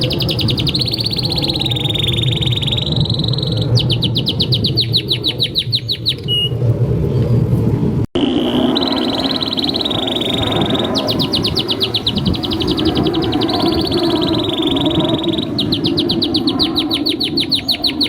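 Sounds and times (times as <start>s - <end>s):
canary singing trills: 0.0s - 6.6s, 8.2s - 18.0s.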